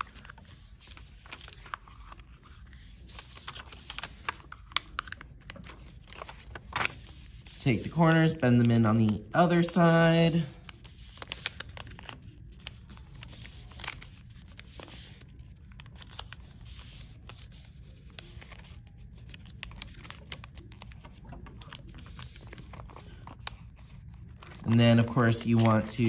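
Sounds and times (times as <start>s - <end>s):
paper rustling and crinkling: 0.0s - 26.0s.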